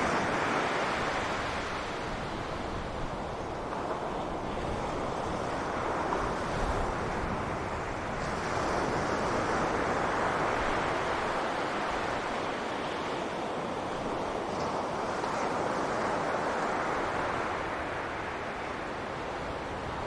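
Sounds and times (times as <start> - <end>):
surf washing onto beach: 0.0 - 20.0
wind: 0.0 - 20.0.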